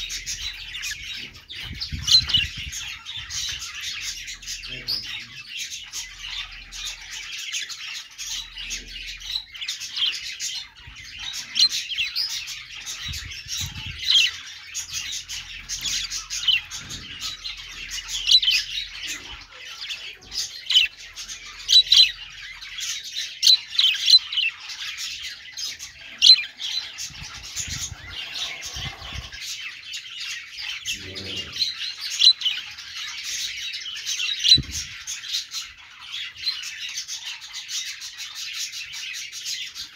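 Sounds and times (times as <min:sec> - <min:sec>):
sharp bird chirps and squawks: 0:00.0 - 0:38.4
budgerigars chattering: 0:00.0 - 0:39.9.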